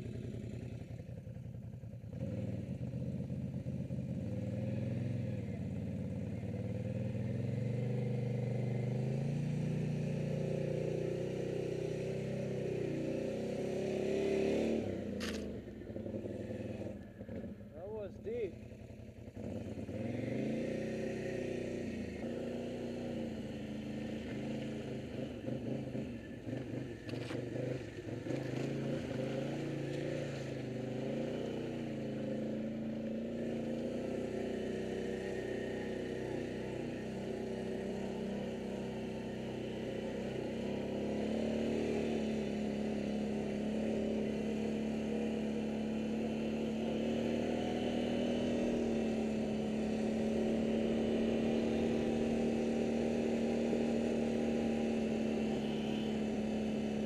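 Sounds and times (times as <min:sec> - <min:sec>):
quad engine revving: 0:02.2 - 0:03.3, 0:04.1 - 0:18.7, 0:19.3 - 0:57.0.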